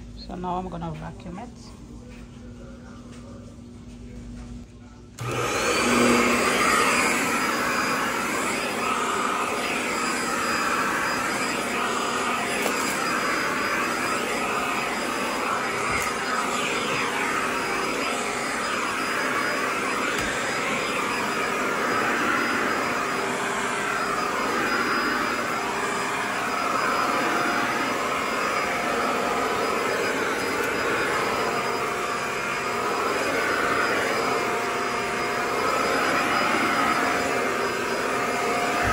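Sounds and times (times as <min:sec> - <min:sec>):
vacuum cleaner running on carpet: 0:00.0 - 0:02.2, 0:05.2 - 0:38.9.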